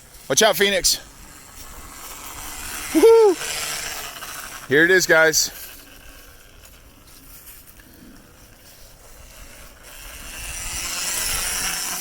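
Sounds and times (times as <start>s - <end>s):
electric dirt bike riding by: 0.0s - 12.0s.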